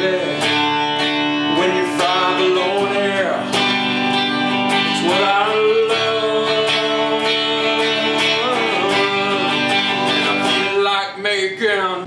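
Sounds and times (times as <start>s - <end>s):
man singing: 0.0s - 3.9s, 4.5s - 12.0s
guitar strummed: 0.0s - 12.0s.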